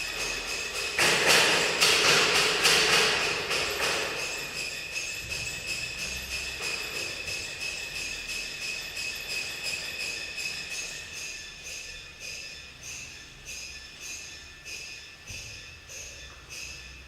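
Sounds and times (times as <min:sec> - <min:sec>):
metallic jingling and rattle: 0:00.0 - 0:16.8.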